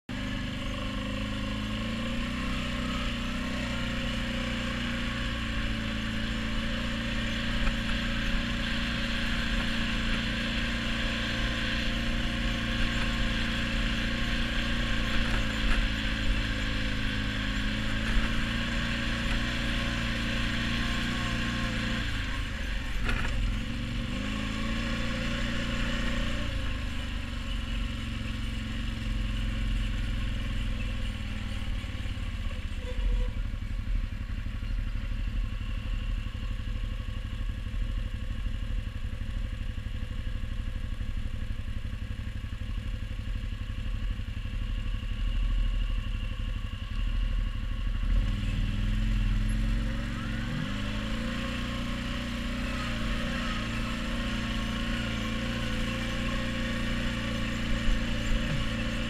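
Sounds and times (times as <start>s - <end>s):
atv engine running: 0.1s - 59.0s.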